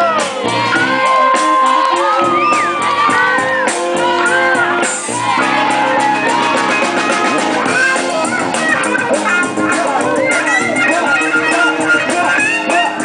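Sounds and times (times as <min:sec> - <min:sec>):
bass guitar: 0:00.0 - 0:13.0
guitar: 0:00.0 - 0:13.0
sliding lead melody: 0:00.0 - 0:13.0.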